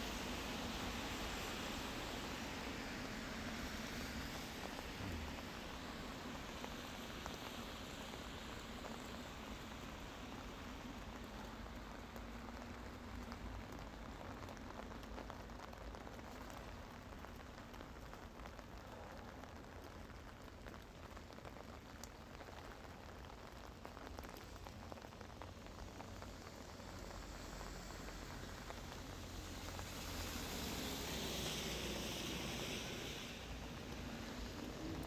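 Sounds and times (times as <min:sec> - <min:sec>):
rain pattering: 0:00.0 - 0:35.0.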